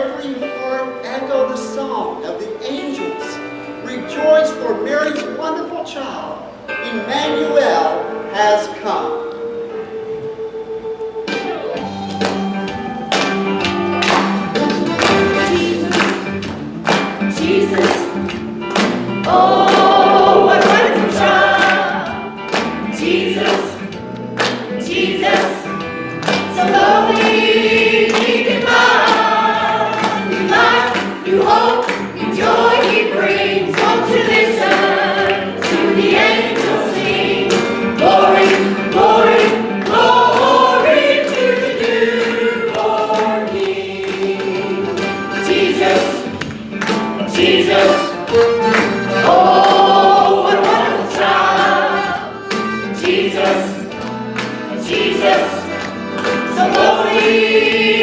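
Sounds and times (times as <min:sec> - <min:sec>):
church choir singing: 0:07.8 - 0:58.0
steady percussive beat: 0:11.3 - 0:58.0.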